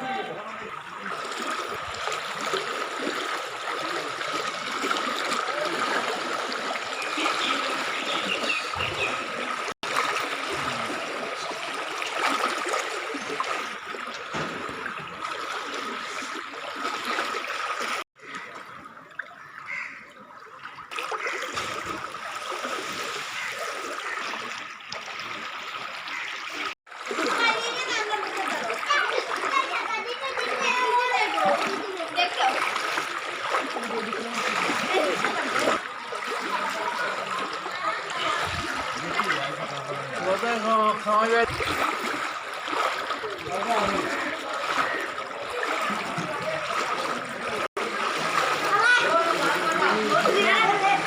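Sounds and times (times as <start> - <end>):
floodwater running and splashing: 0.0 - 51.0.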